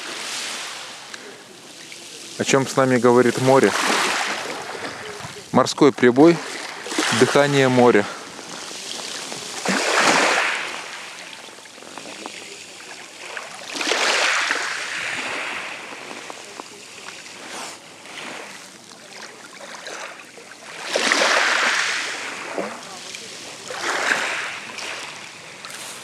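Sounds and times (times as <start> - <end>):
waves breaking on pebble beach: 0.0 - 26.0
water trickling over pebbles: 0.4 - 21.9, 22.8 - 26.0.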